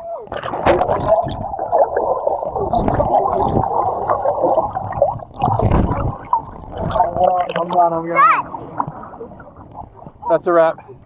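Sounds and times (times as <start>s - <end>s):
muffled underwater bubbling: 0.2s - 11.0s
water splash: 0.3s - 10.4s.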